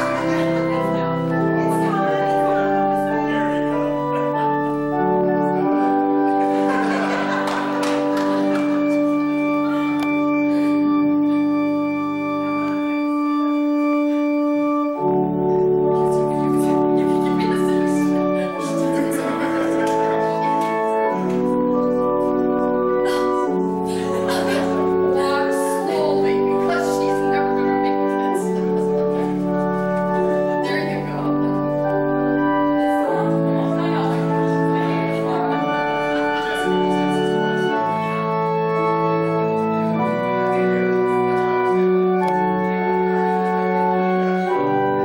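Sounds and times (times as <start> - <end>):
organ playing slow chords: 0.0 - 45.0.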